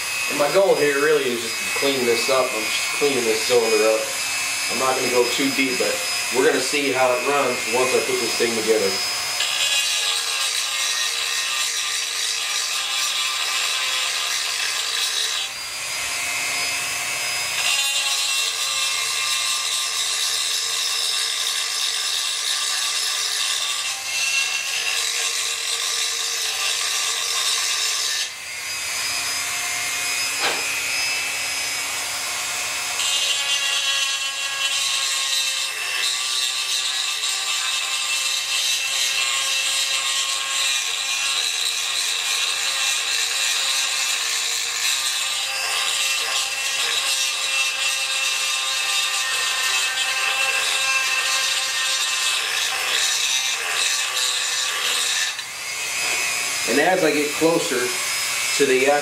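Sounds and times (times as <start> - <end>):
rotary tool grinding metal: 0.0 - 59.0.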